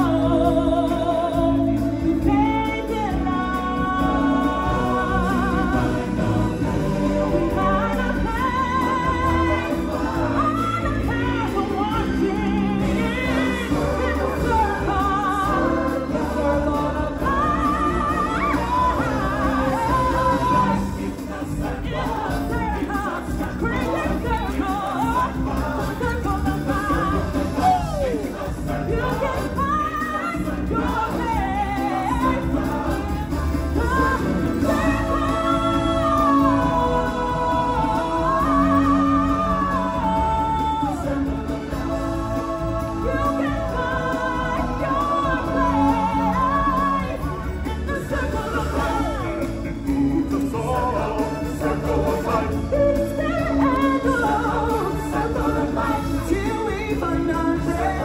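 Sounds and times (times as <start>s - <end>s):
backing band: 0.0s - 58.0s
voices singing with vibrato: 0.0s - 58.0s.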